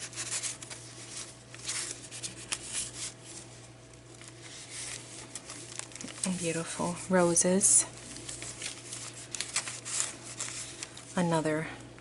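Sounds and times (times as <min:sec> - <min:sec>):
paper pages rustling: 0:00.0 - 0:11.3
faint steady hum: 0:00.0 - 0:12.0.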